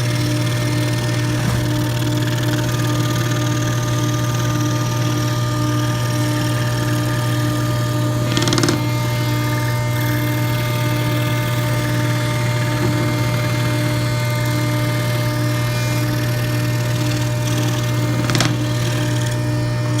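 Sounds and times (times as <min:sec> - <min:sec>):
scroll saw running: 0:00.0 - 0:20.0.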